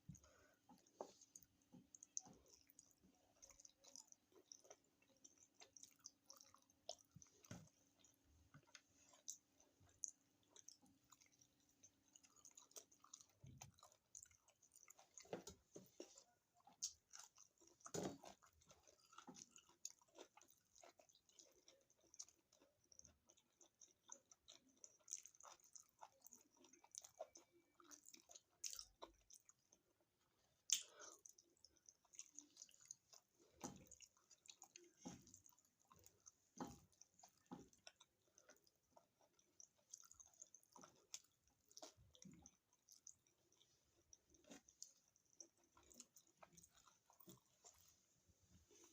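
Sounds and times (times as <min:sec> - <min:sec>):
mouth chewing sounds: 0:00.0 - 0:48.0.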